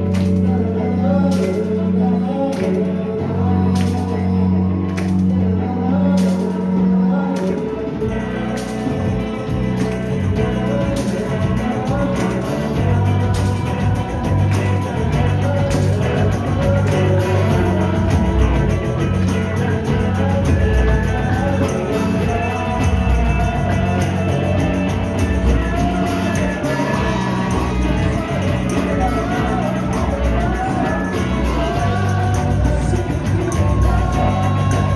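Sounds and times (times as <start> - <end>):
bass guitar: 0.0 - 34.9
drums: 0.0 - 34.9
electric guitar: 0.0 - 34.9
person singing: 0.0 - 34.9.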